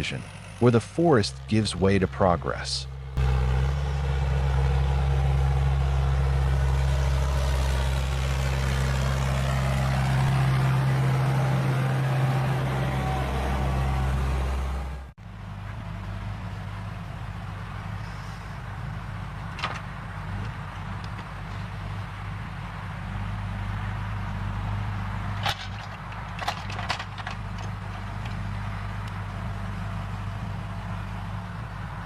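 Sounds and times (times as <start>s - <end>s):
diesel engine running: 0.0s - 32.0s
quieter engine sound: 0.0s - 32.0s.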